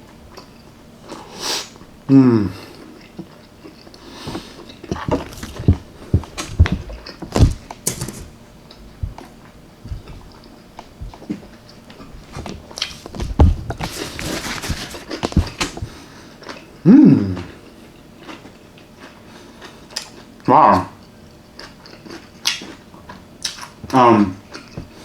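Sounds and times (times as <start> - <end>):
person chewing food: 2.5 - 16.8, 17.6 - 20.4, 21.0 - 25.0.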